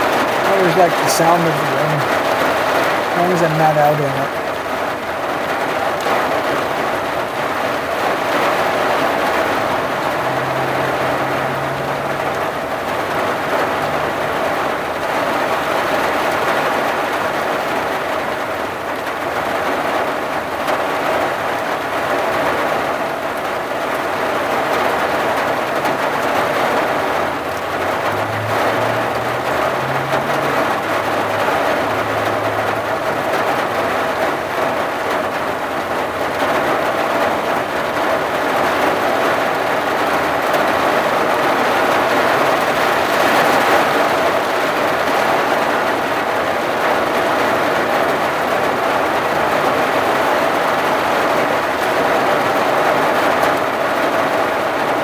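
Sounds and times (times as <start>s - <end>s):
rain on windshield and roof: 0.0s - 55.0s.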